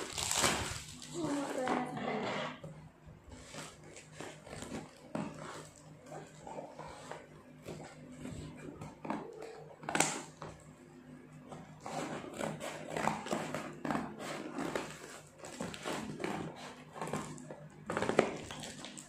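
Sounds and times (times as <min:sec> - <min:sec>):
scissors cutting tape and cardboard: 0:00.0 - 0:02.2, 0:03.3 - 0:10.5, 0:11.6 - 0:19.0.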